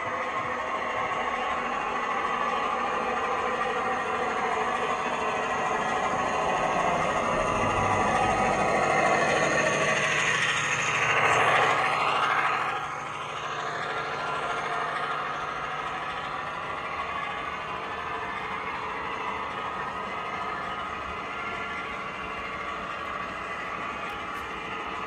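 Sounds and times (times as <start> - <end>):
train engine passing by: 0.0 - 25.0.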